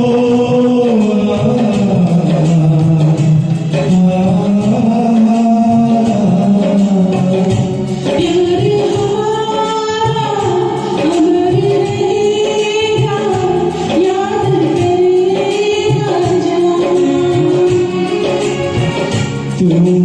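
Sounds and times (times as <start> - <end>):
karaoke music with steady beat: 0.0 - 20.0.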